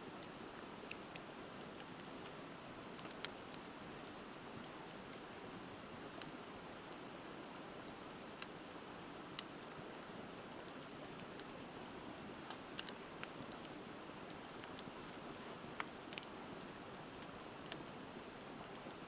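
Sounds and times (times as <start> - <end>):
wood fire crackling and popping: 0.1 - 19.0.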